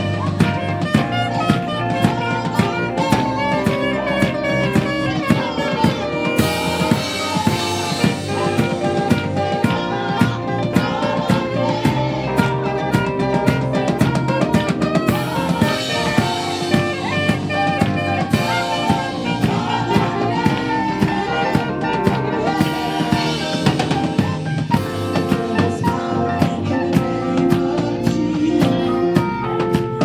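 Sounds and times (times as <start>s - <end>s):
drum kit beat: 0.0s - 30.0s
held instrumental chords: 0.0s - 30.0s.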